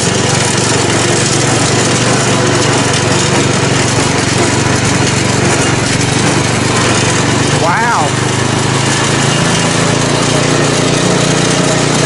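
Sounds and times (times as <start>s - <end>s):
small lawn-mower engine running: 0.0s - 12.0s.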